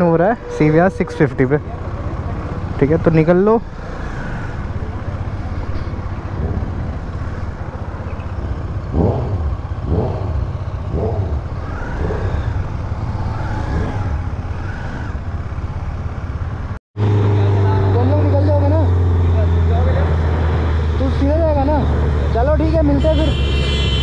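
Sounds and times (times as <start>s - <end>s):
motorcycle engines running: 0.0s - 24.0s
motorcycle engine revs: 1.6s - 24.0s.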